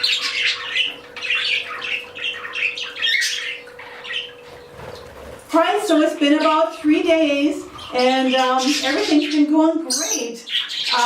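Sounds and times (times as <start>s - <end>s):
budgerigars chattering: 0.0s - 11.0s
faint steady hum: 0.0s - 11.0s.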